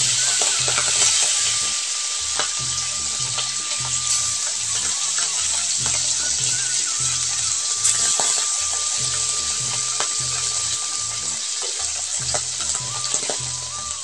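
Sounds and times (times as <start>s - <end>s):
fish sizzling in oil: 0.0s - 14.0s
oil crackling and popping: 0.0s - 14.0s.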